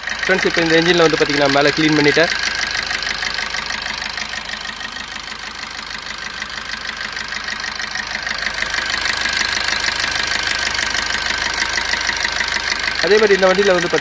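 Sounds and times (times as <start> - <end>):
diesel engine idling with ticking: 0.0 - 14.0.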